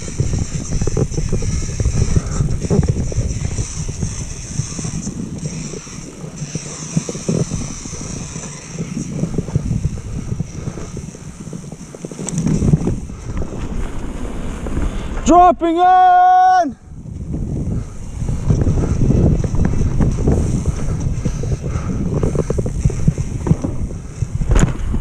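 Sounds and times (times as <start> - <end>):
mountain bike rumbling and rattling: 0.0 - 16.1, 16.8 - 25.0
wind buffeting microphone: 0.0 - 25.0.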